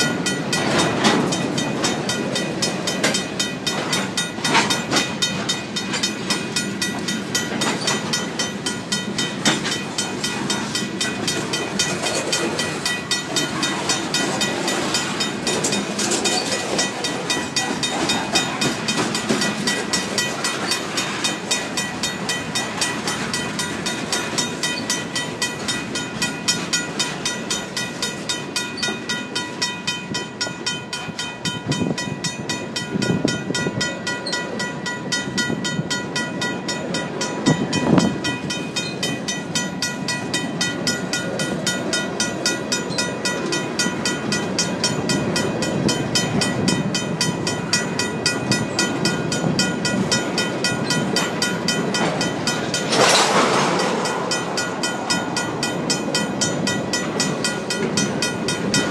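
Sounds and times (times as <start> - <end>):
freight train rumble and clatter: 0.0 - 58.9
mechanical crossing bell ringing: 0.0 - 58.9
train wheels clanking: 0.0 - 58.9.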